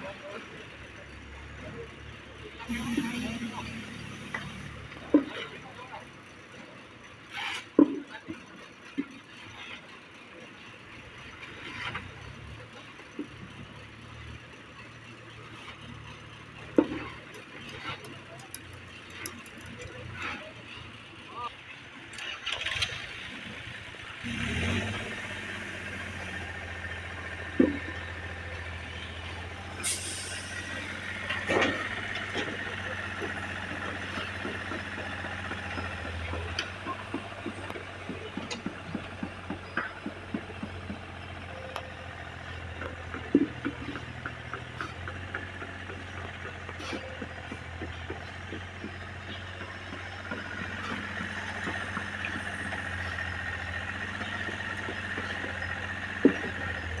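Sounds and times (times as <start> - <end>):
engine running with low hum: 0.0 - 57.0.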